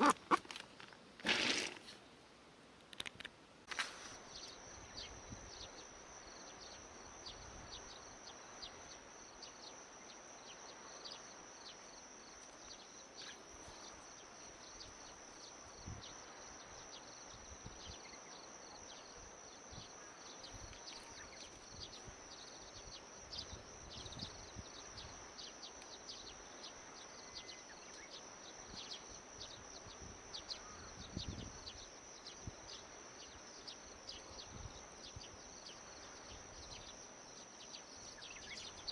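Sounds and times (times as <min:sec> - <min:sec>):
high-pitched insect chorus: 0:03.7 - 0:38.9.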